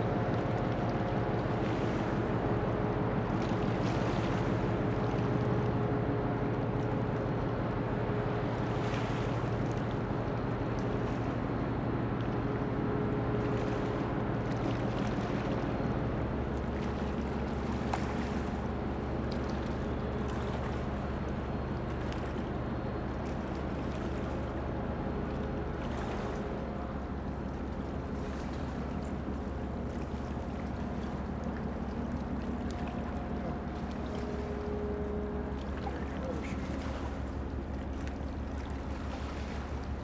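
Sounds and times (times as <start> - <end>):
ship engine droning: 0.0 - 40.0.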